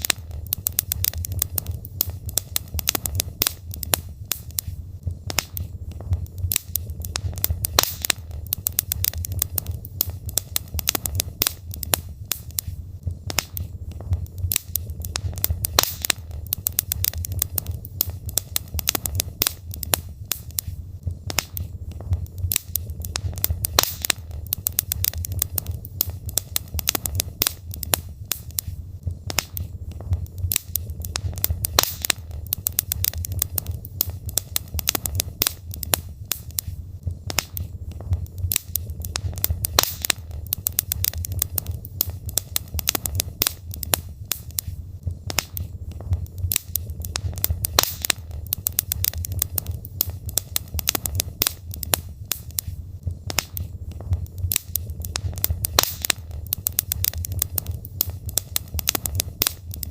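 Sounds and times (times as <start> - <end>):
fireplace flames rumbling: 0.0 - 59.9
logs crackling and popping: 0.0 - 59.9.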